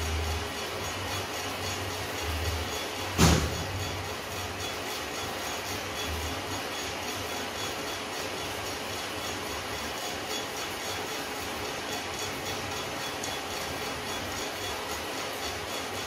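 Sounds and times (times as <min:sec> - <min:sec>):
motor and fan hum: 0:00.0 - 0:16.0.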